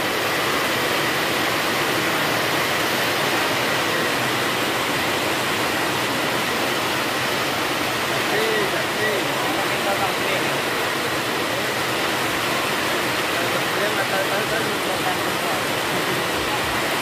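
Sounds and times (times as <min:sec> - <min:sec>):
rain on a metal roof: 0:00.0 - 0:17.0.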